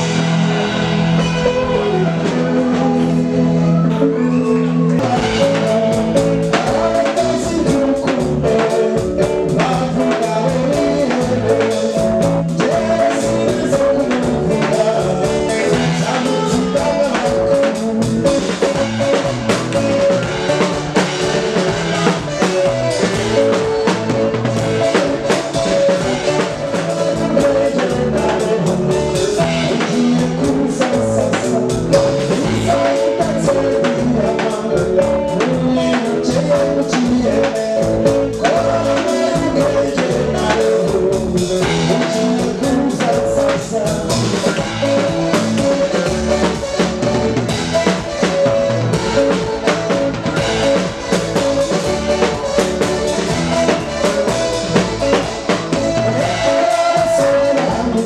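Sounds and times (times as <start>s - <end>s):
bass guitar: 0.0s - 58.0s
drums: 0.0s - 58.0s
electric guitar: 0.0s - 58.0s
keyboard: 0.0s - 58.0s
man singing: 0.0s - 58.0s.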